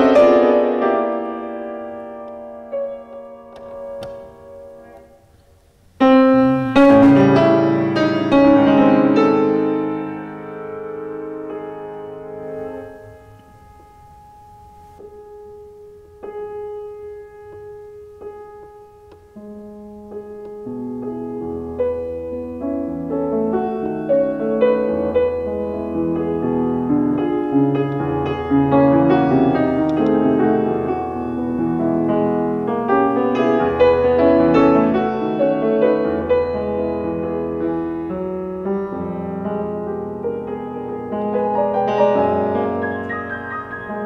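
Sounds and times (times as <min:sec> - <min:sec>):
classical piano piece: 0:00.0 - 0:44.0.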